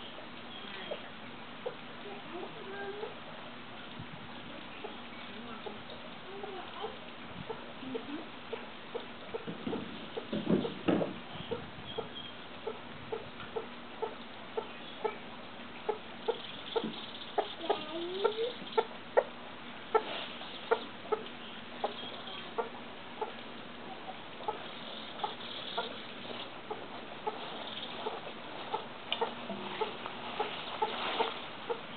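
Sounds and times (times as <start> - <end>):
hen clucking: 4.7 - 31.9.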